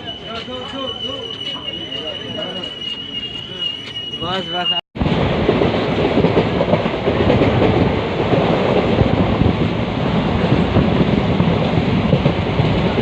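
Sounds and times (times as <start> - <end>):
train rumbling and rattling on rails: 0.0 - 13.0.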